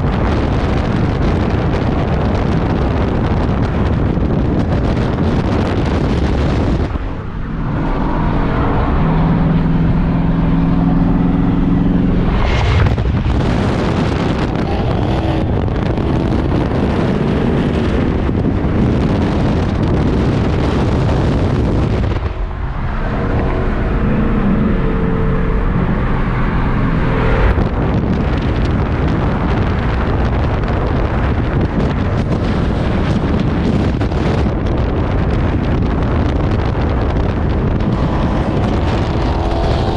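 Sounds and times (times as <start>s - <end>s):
car engine running: 0.0s - 39.9s
wind rush: 0.0s - 39.9s.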